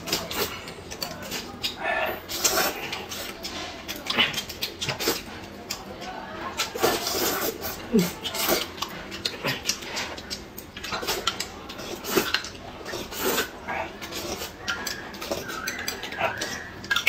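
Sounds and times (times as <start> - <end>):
slurping and chewing noodles: 0.0 - 17.0.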